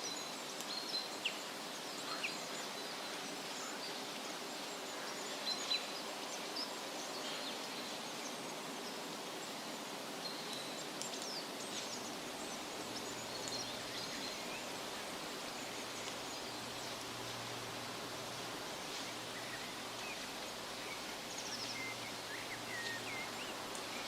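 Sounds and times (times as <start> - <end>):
wind rustling leaves: 0.0 - 24.0.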